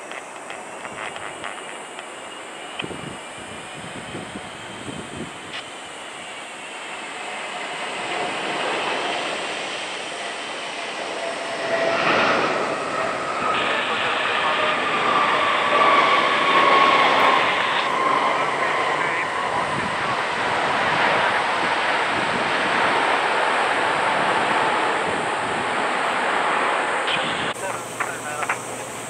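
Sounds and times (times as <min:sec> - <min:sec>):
jet engines passing: 0:00.0 - 0:29.0.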